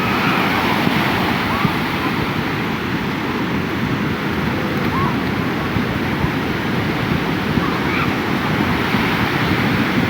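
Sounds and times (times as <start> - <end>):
surf waves breaking: 0.0 - 10.0.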